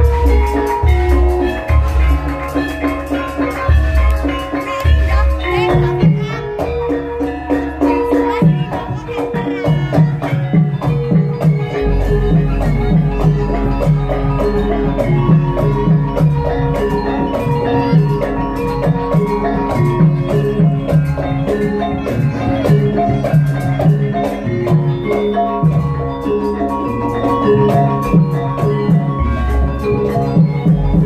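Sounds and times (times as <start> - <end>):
drums: 0.0 - 31.0
metallophones chiming: 0.0 - 31.0.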